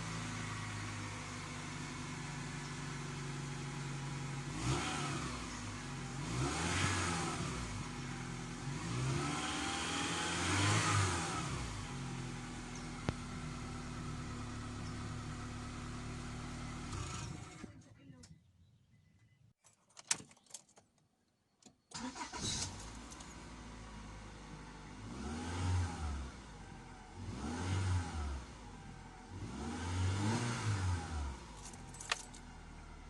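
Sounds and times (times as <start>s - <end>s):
car engine idling and revving: 0.0s - 18.1s, 22.0s - 33.0s.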